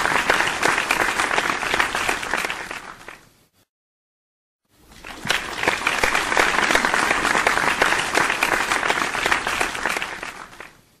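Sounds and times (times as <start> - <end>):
audience applauding: 0.0 - 3.2, 5.0 - 10.8.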